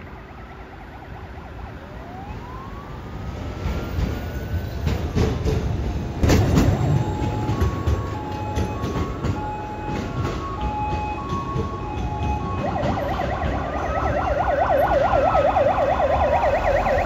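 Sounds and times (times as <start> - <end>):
two-tone hi-lo siren: 0.0 - 3.4, 6.6 - 17.0
fire engine sirens wailing: 0.0 - 5.0, 6.2 - 17.0
traffic rumble: 0.0 - 17.0.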